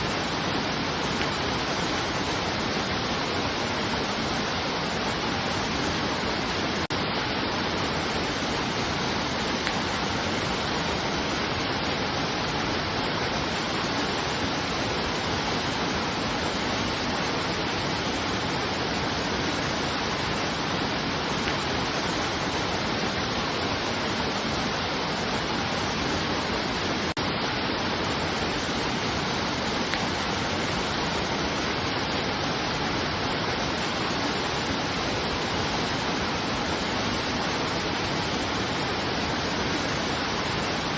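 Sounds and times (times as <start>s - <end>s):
steady broadband rushing noise: 0.0s - 40.9s.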